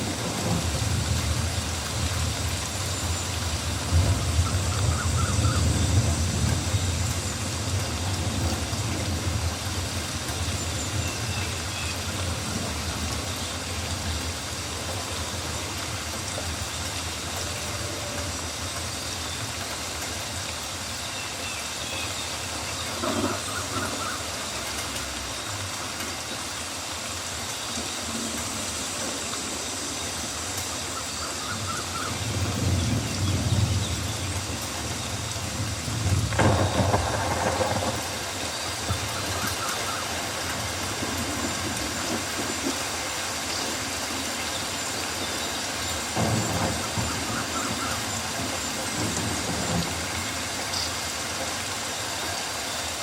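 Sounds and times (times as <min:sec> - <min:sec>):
rain falling in a forest: 0:00.0 - 0:53.0.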